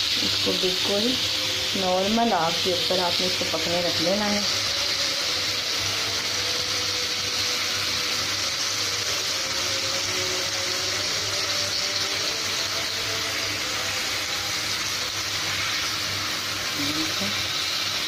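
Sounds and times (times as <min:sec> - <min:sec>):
chicken sizzling on a hot pan: 0:00.0 - 0:18.0.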